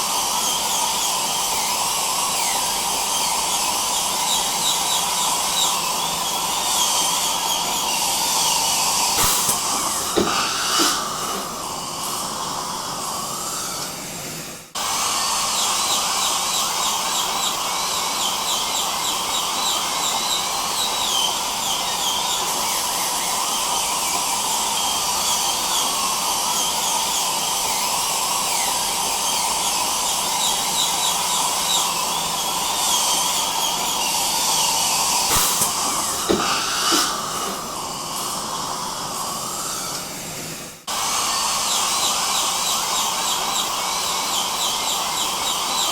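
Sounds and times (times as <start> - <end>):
dental drill whining: 0.0 - 45.9
dental suction hiss: 0.0 - 45.9.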